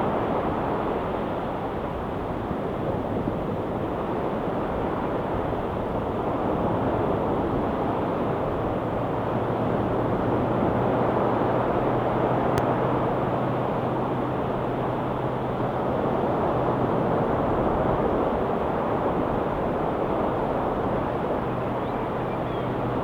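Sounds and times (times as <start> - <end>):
ocean waves washing ashore: 3.8 - 23.0.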